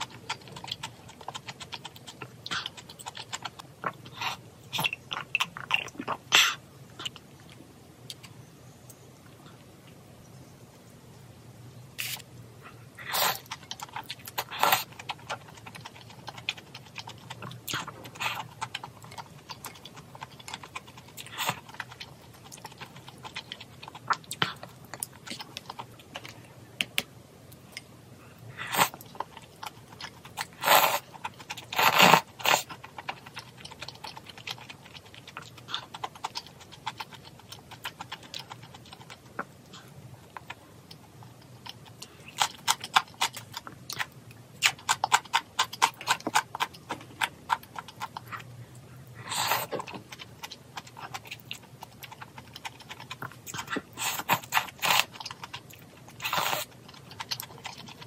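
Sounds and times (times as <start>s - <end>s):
chewing: 0.0s - 8.3s, 12.0s - 58.0s.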